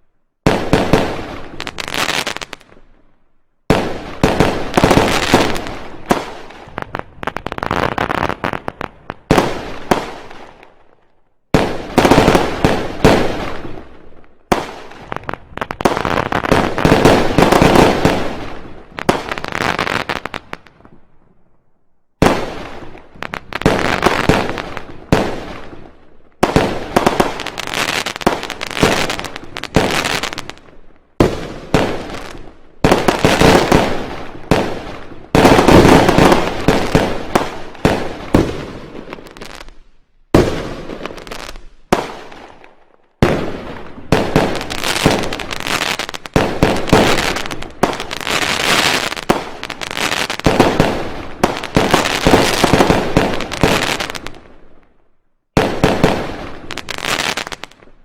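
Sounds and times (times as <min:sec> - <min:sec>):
fireworks bangs and crackles: 0:00.0 - 0:21.5, 0:22.1 - 0:58.0.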